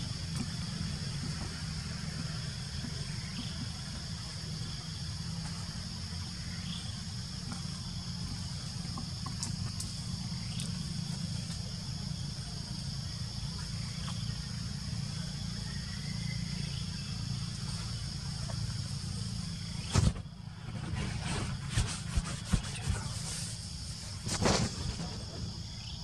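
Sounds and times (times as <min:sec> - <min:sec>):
insects buzzing: 0:00.0 - 0:26.0
low steady rumble: 0:00.0 - 0:26.0.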